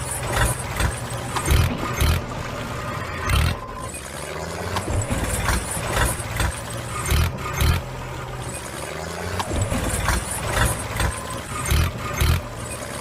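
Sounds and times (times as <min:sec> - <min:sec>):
engine rattles and knocks: 0:00.0 - 0:13.0.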